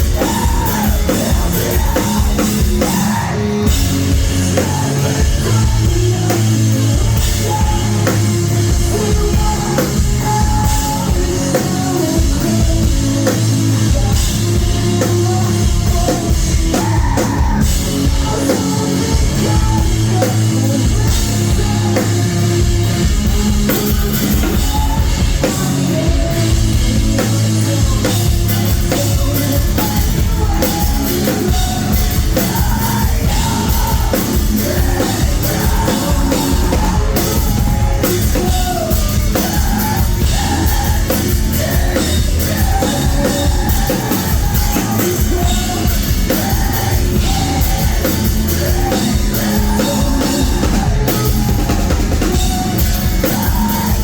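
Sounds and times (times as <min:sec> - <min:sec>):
drum kit beat: 0:00.0 - 0:54.0
rock band playing live: 0:00.0 - 0:54.0.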